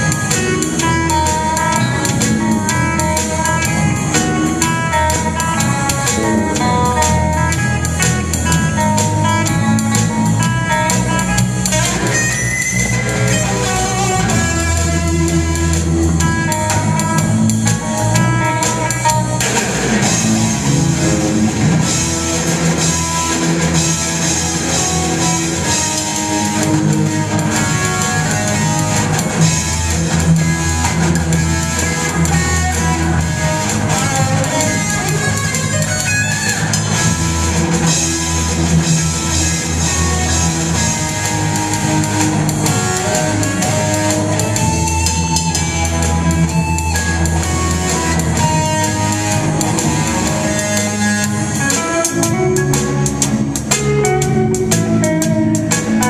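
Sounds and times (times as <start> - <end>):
drum kit: 0.0 - 56.0
electric guitars: 0.0 - 56.0
live rock band playing: 0.0 - 56.0.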